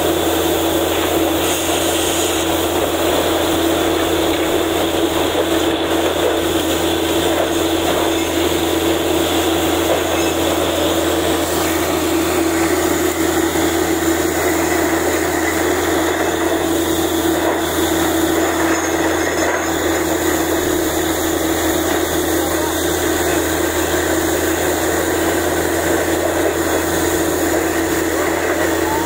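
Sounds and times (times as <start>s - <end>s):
drilling rig drone: 0.0s - 29.0s.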